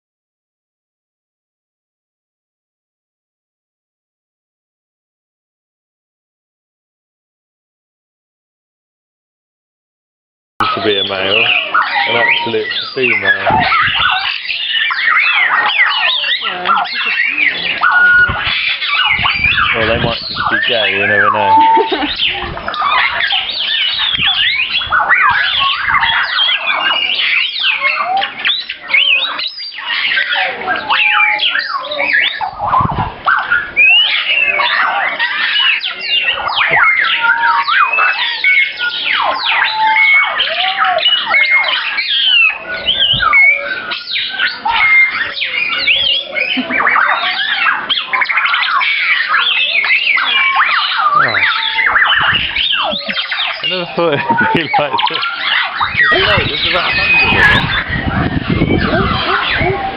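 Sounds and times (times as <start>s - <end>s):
parrots squawking and calling: 10.6s - 59.9s.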